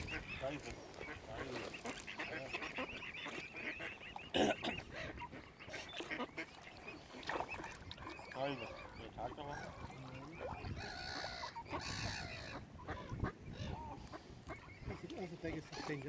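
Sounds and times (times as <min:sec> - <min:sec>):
waterbirds honking and quacking: 0:00.0 - 0:16.0
young birds peeping: 0:00.0 - 0:16.0.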